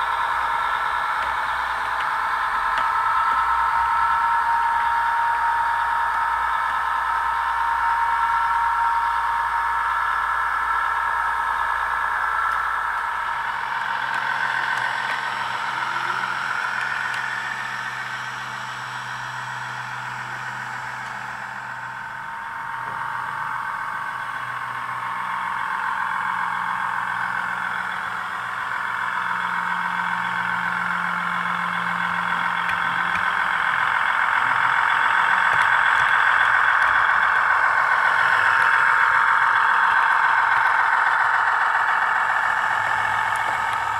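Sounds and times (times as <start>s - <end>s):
diesel engine sound from small speaker: 0.0s - 43.9s.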